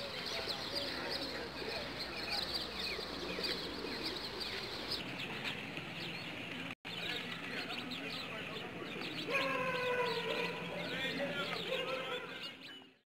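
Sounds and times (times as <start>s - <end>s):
pigeons cooing: 0.0s - 12.7s
birds chirping rapidly: 0.0s - 13.0s.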